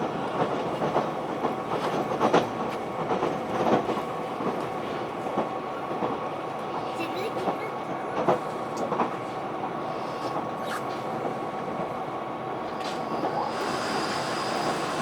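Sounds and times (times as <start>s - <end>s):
train engine and wheels rumble: 0.0s - 15.0s.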